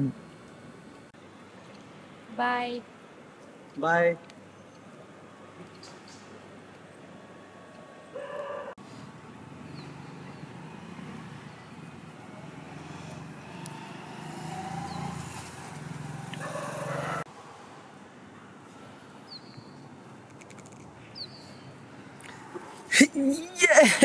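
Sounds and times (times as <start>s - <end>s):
low rumble of road traffic: 0.0s - 24.0s.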